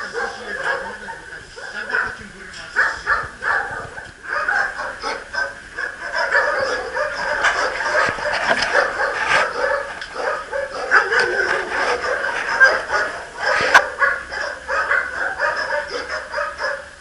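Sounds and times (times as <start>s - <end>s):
dogs barking and yipping: 0.0s - 17.0s.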